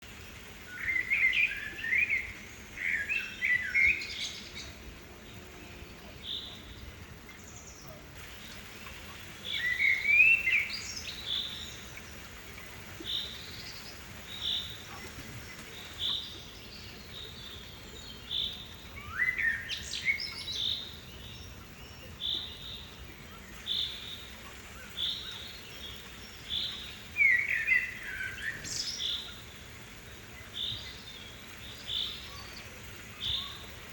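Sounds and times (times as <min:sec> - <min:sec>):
faint steady hiss: 0:00.0 - 0:33.9
songbirds warbling: 0:00.0 - 0:33.9.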